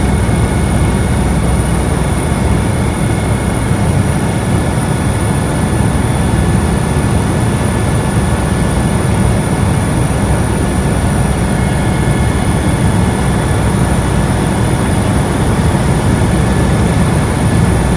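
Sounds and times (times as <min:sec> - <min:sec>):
helicopter running: 0:00.0 - 0:17.9.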